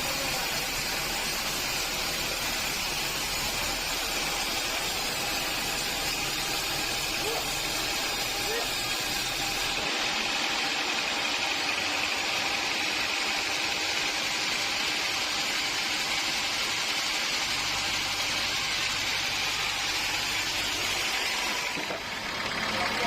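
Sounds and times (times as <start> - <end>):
sawmill machinery humming: 0.0 - 23.0.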